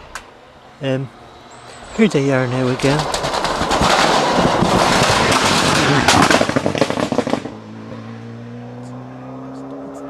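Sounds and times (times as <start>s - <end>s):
cars speeding past: 0.0s - 10.0s
engine crackling pops: 0.0s - 10.0s.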